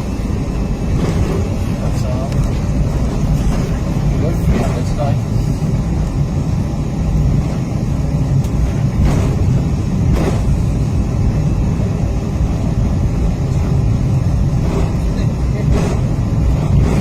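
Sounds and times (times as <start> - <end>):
aircraft engines low rumble: 0.0 - 17.0
wheels rolling on taxiway: 0.0 - 17.0.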